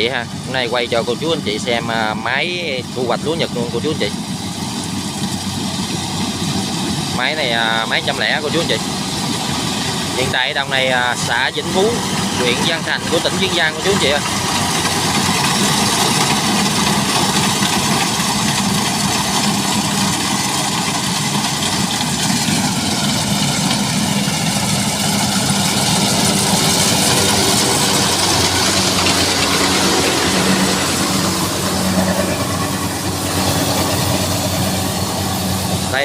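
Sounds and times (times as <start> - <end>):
combine harvester engine droning: 0.0 - 36.0.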